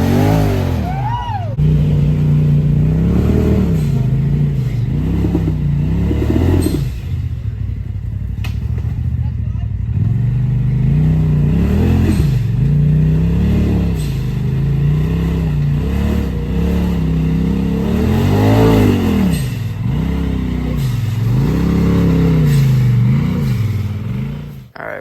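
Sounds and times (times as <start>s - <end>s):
engine revving: 0.0s - 24.8s.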